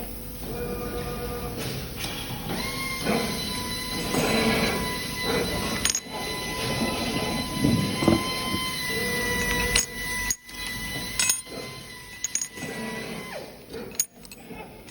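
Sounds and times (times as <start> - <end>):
machine motors whining: 0.0 - 14.9
machine clanking and knocking: 2.6 - 14.9.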